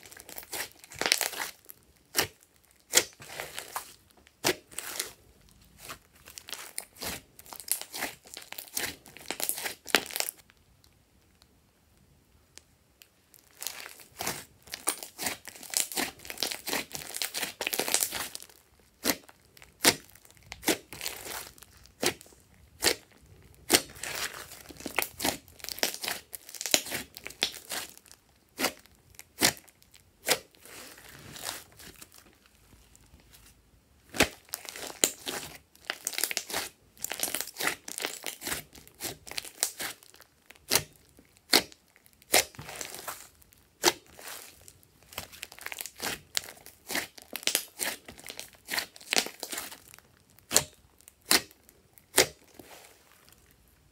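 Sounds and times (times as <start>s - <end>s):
slime crackling and popping: 0.0s - 11.0s, 13.0s - 33.1s, 34.0s - 53.6s.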